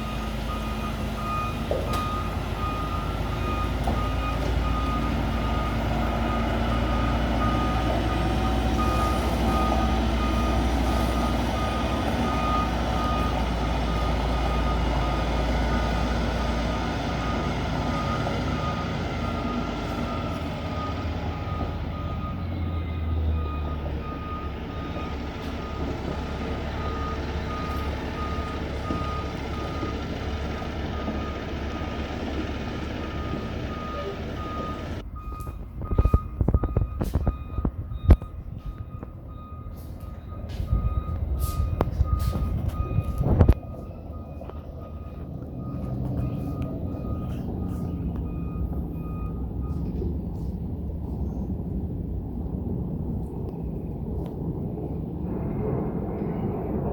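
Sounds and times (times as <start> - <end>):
reversing alarm beeping: 0.0 - 51.3
truck engine running: 0.0 - 56.9.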